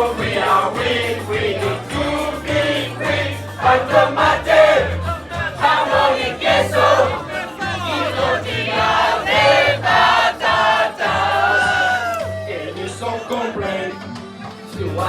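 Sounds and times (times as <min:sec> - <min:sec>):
backing music with bass line: 0:00.0 - 0:15.0
group of voices singing: 0:00.0 - 0:15.0.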